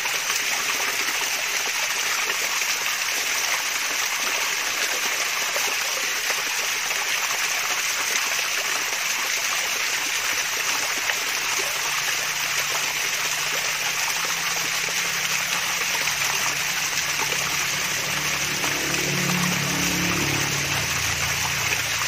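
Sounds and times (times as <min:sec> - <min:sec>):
waterfall splashing: 0:00.0 - 0:22.0.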